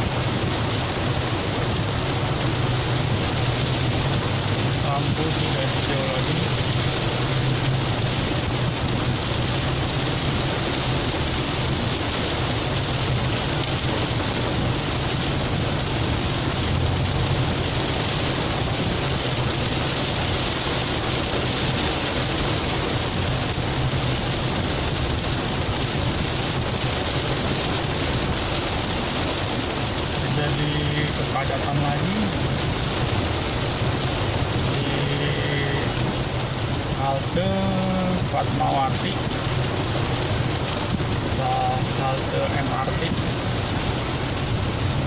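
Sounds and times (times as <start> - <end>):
low engine hum: 0.0 - 38.4
heavy rain on a car: 0.0 - 45.0.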